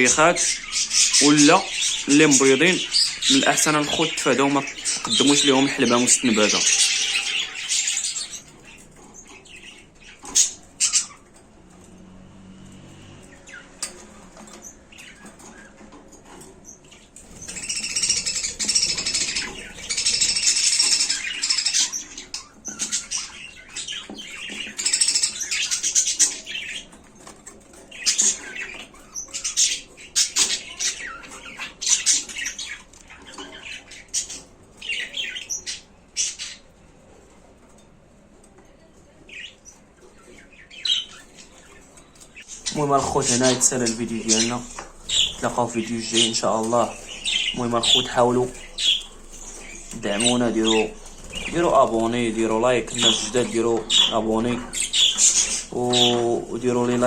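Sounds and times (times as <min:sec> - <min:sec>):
budgerigars chattering: 0:00.0 - 0:11.8, 0:13.0 - 0:36.8, 0:39.3 - 0:57.0.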